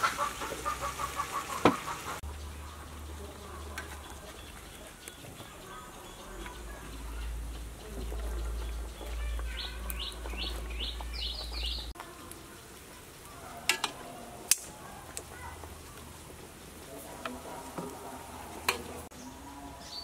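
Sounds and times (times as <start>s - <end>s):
bird singing: 0.7s - 20.0s.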